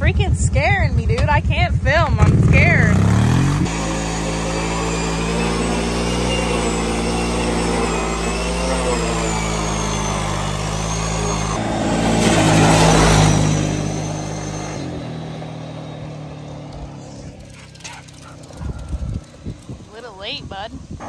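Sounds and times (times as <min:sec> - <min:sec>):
atv engine revving: 0:00.0 - 0:21.0
tires squealing on pavement: 0:02.6 - 0:19.5.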